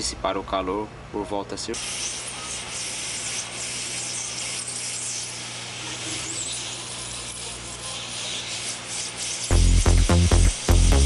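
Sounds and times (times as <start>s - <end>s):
hot air blower hissing: 1.8s - 11.0s.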